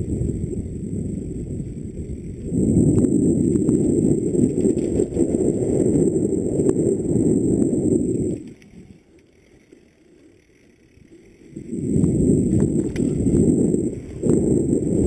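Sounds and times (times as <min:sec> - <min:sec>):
wind buffeting: 0:00.0 - 0:09.0, 0:11.0 - 0:15.0
bike tyres on dirt trail: 0:00.0 - 0:15.0
thin high whine: 0:00.0 - 0:15.0.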